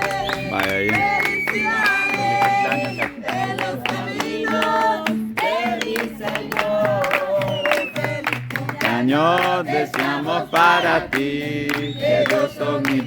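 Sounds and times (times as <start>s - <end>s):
group singing: 0.0s - 13.0s
strummed acoustic guitar: 0.0s - 13.0s.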